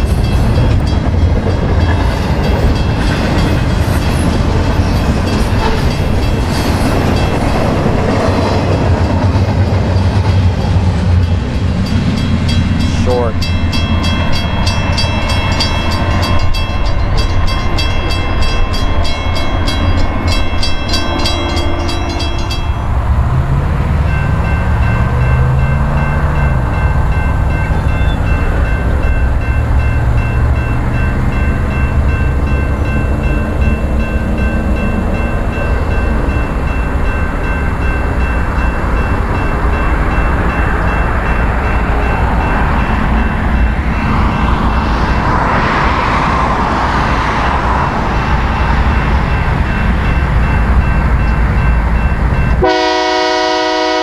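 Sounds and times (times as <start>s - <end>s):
steady bell tone: 0.0s - 8.0s, 11.2s - 45.3s, 48.1s - 53.6s
railroad crossing bells ringing: 0.0s - 54.0s
train rumbling: 0.0s - 54.0s.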